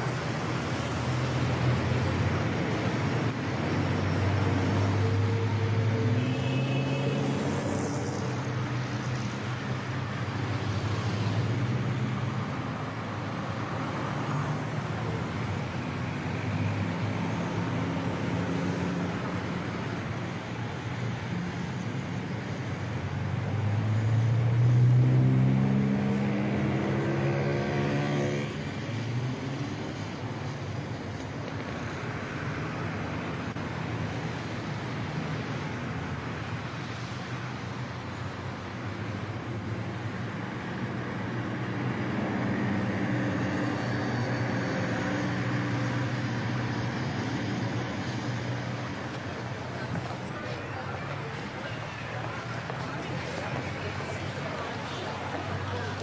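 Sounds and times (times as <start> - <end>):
bus engines: 0.0 - 56.0
bus pulling away: 0.0 - 56.0
street traffic: 0.0 - 56.0.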